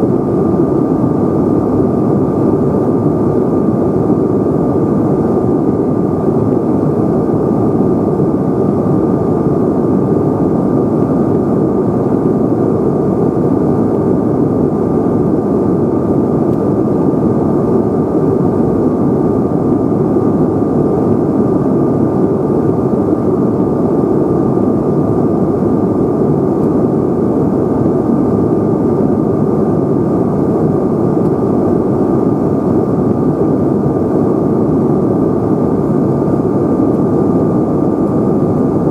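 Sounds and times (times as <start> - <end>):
jet engine roar in cabin: 0.0 - 38.9
thin steady whine: 0.0 - 38.9.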